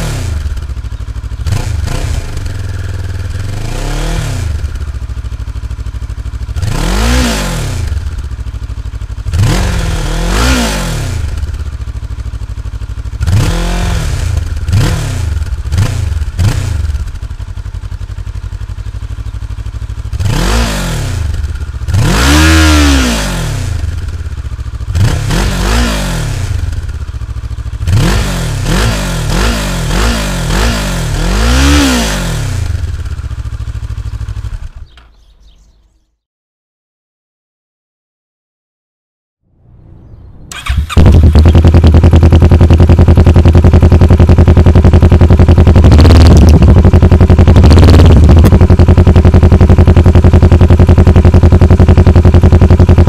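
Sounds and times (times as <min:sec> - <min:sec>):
motorcycle engine revving: 0:00.0 - 0:36.1, 0:39.5 - 0:53.0.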